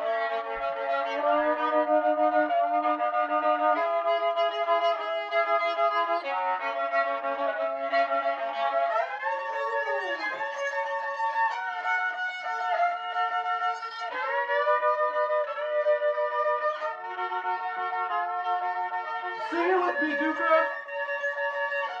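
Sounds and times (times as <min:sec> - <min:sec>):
solo violin slow melody: 0:00.0 - 0:22.0.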